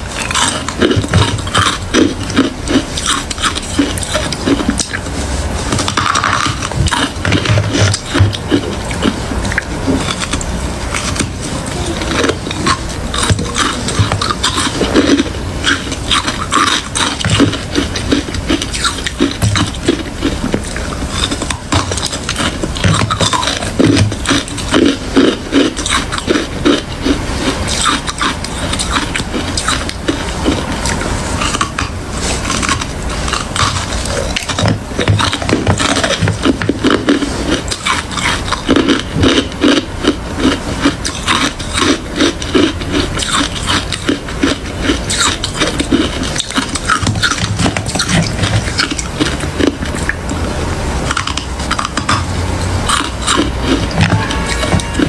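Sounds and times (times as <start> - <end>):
person chewing ice crunching: 0.0 - 55.0.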